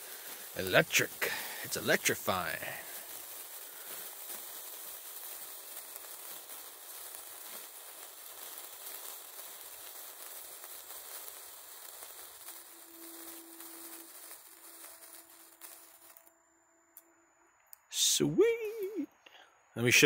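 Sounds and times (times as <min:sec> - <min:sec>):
sparkler fizzing and crackling: 0:00.0 - 0:17.0, 0:17.9 - 0:19.1.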